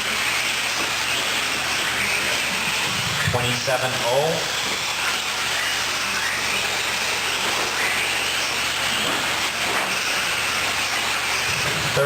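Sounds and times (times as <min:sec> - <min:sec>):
rc truck motors whining: 0:00.0 - 0:12.0.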